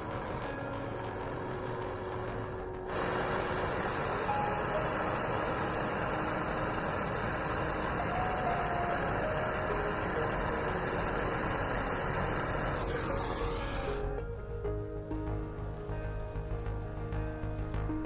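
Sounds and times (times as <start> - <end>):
faint melody: 0.0 - 18.0
steady rushing noise: 0.0 - 18.0.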